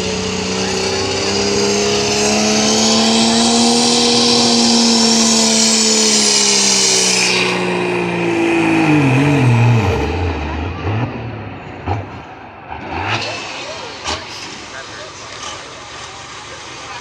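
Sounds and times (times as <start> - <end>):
truck engine at full power: 0.0 - 17.0.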